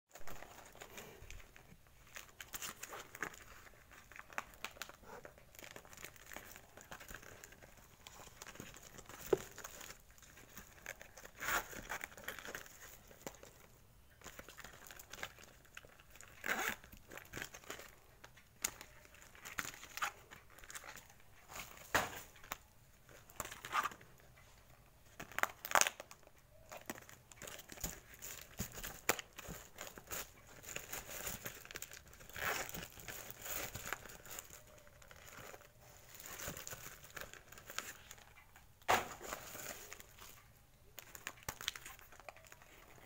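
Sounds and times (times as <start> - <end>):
plastic packaging crinkling: 0.1 - 43.0.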